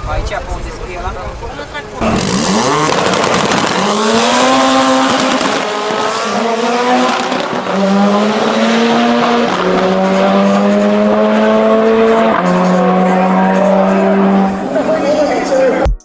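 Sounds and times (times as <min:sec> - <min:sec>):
car engine at high revs: 0:02.0 - 0:15.2.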